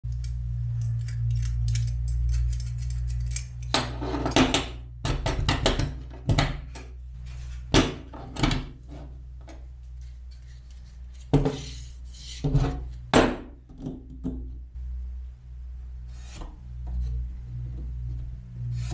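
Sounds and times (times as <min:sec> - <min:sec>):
low hum: 0:00.0 - 0:18.9.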